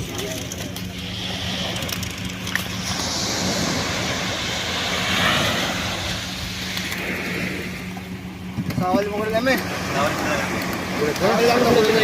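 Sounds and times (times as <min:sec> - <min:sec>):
surf rushing: 0:00.0 - 0:12.0.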